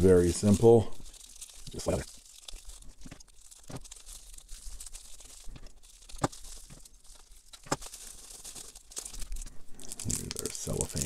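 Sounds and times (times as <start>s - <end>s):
bubble wrap crinkling: 0.0s - 11.0s
bubble wrap snaps: 0.3s - 11.0s.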